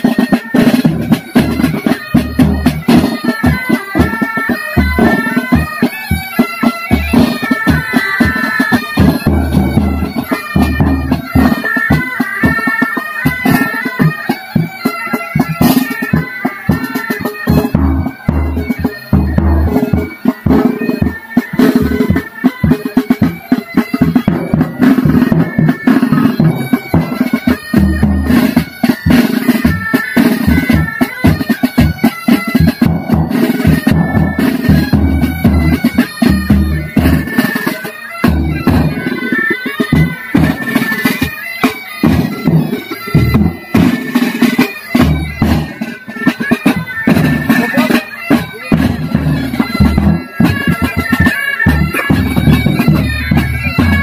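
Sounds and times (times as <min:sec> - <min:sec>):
bagpipes playing: 0:00.0 - 0:54.0
drums beating rapidly: 0:00.0 - 0:54.0.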